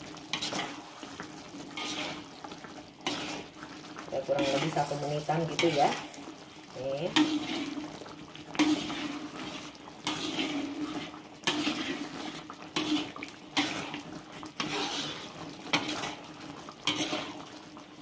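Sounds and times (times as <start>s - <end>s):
spatula scraping a wok: 0.0s - 17.9s
sauce sizzling: 0.0s - 18.0s.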